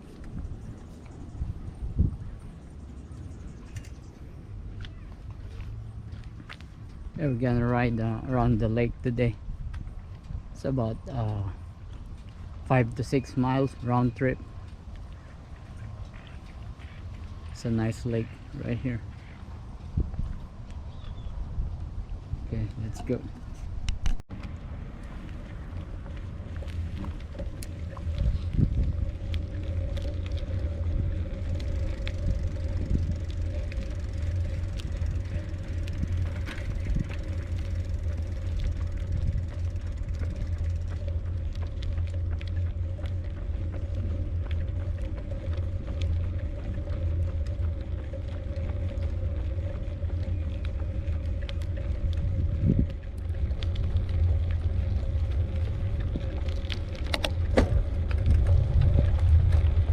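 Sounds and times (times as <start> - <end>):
bicycle clicks and rattles: 0.0 - 59.9
faint hum: 0.0 - 59.9
wind buffeting microphone: 0.0 - 59.9.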